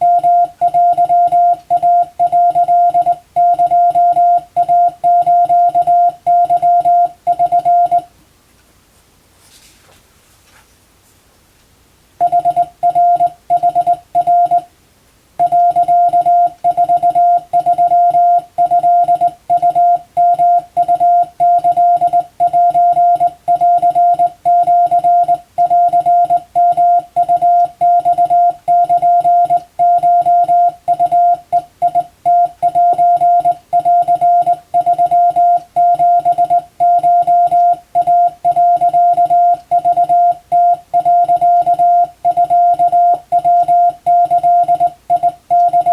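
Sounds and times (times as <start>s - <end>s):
morse code tone: 0.0s - 8.1s, 12.2s - 14.7s, 15.4s - 45.9s.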